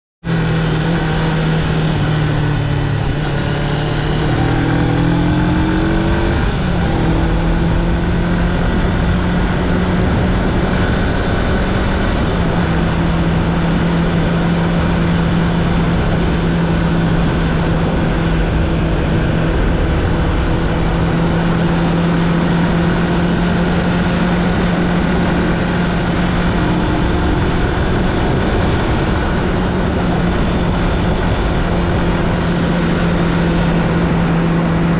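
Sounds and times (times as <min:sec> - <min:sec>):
motorcycle engine revving: 0:00.2 - 0:34.9
wind and road noise: 0:00.2 - 0:34.9.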